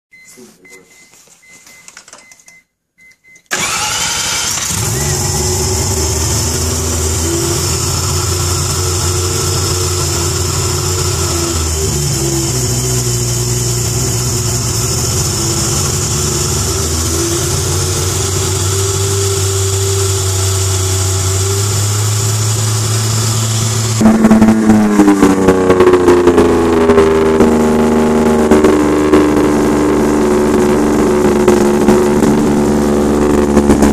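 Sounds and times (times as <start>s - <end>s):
rotary engine idling and revving: 3.5s - 33.9s.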